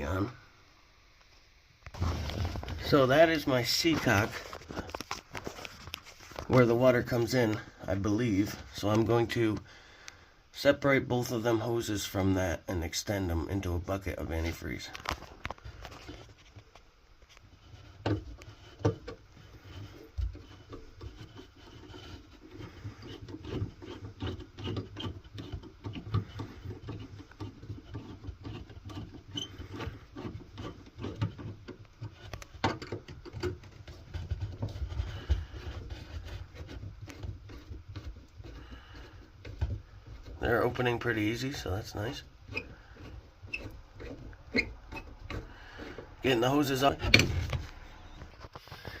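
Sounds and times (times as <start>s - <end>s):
hand work on hose clamps: 1.9s - 49.0s.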